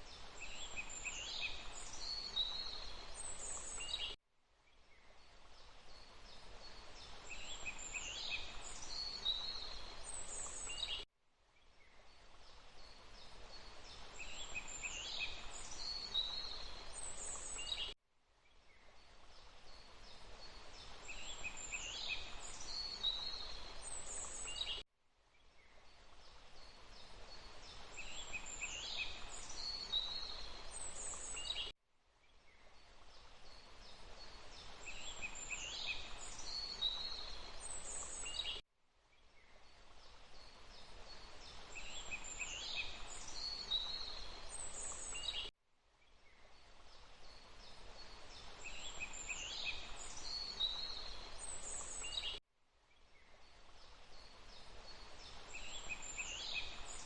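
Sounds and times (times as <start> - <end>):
faint steady hiss: 0.0 - 57.0
songbird chirping: 0.0 - 57.0.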